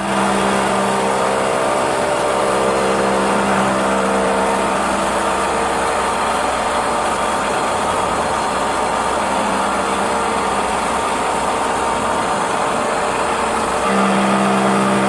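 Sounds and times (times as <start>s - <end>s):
humming tone: 0.0s - 15.0s
milling machine cutting: 0.0s - 15.0s.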